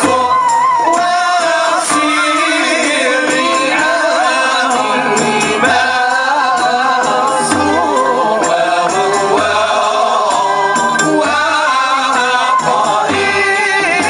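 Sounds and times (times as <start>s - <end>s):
group of voices singing: 0.0s - 14.0s
percussion strokes: 0.0s - 14.0s.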